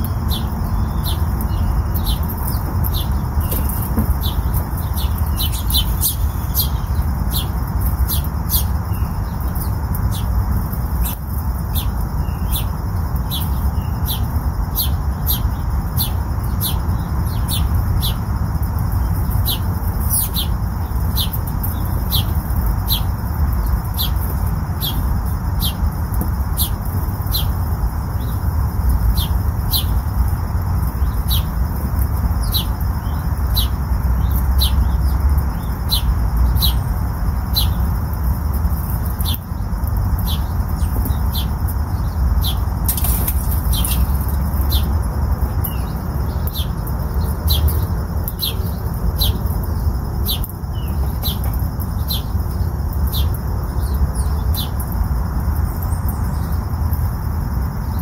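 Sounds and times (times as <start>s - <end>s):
bird chirping: 0.0s - 18.2s, 18.9s - 25.8s, 30.9s - 31.6s, 32.4s - 37.9s, 38.9s - 54.8s
steady low rumble: 0.0s - 58.0s.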